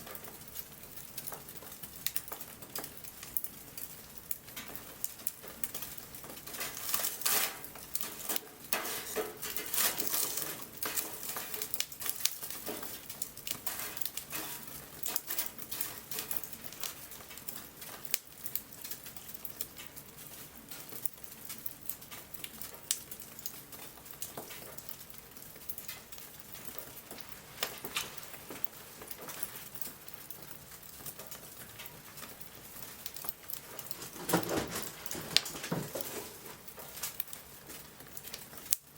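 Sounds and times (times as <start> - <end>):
bonfire crackling and popping: 0.0 - 38.9
light rain: 0.0 - 38.9.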